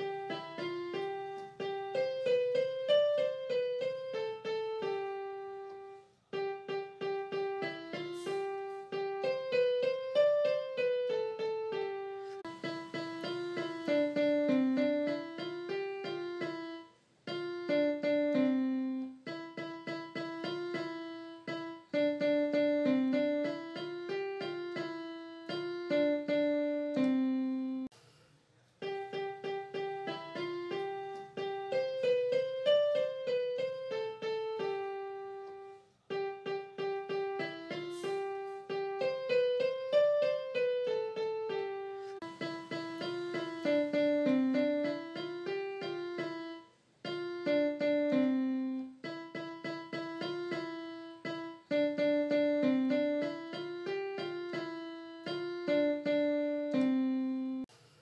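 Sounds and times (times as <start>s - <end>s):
piano melody: 0.0s - 27.9s, 28.8s - 57.7s.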